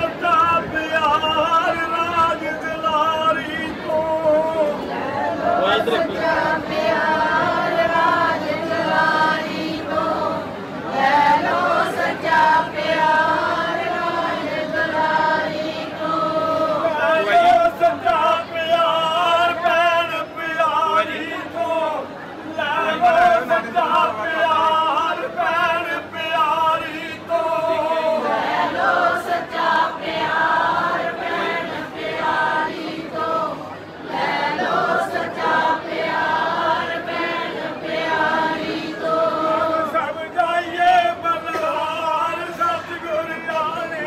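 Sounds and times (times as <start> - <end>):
congregation singing a hymn: 0.0 - 44.0.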